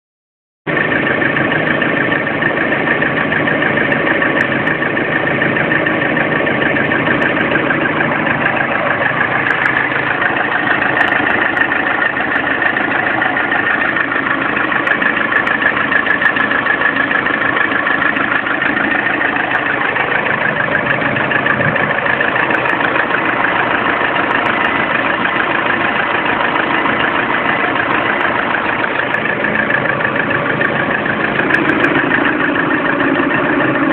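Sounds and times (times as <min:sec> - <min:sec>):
car engine idling: 0:00.7 - 0:33.9
fast engine knocking: 0:00.7 - 0:33.9.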